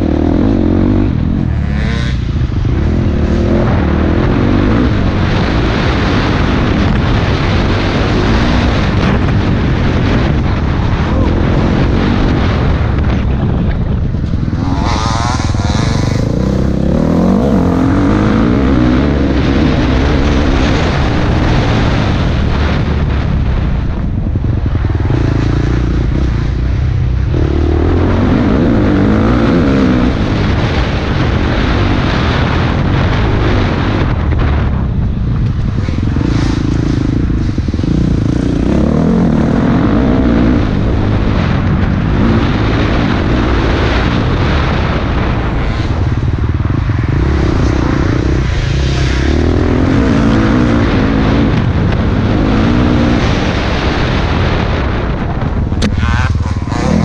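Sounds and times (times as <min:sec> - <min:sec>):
dirt bike engine revving: 0:00.0 - 0:23.7, 0:24.4 - 0:34.7, 0:35.5 - 0:57.0.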